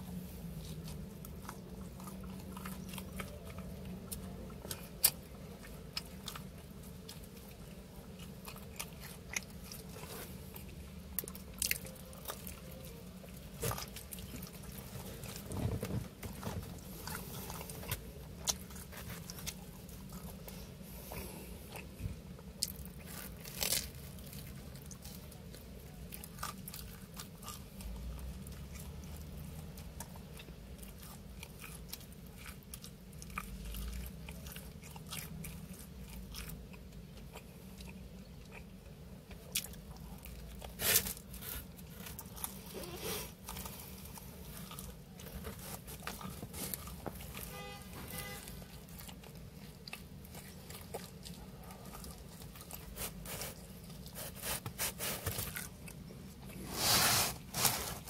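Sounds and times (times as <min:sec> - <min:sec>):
chewing pizza crust: 0:00.0 - 0:58.0
low steady hum: 0:00.0 - 0:58.0.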